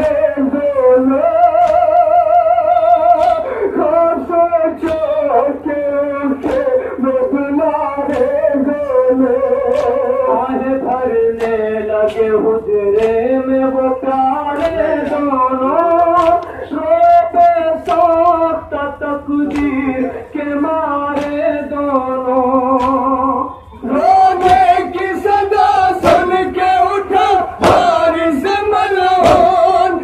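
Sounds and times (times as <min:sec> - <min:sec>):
men chanting a lament: 0:00.0 - 0:30.0.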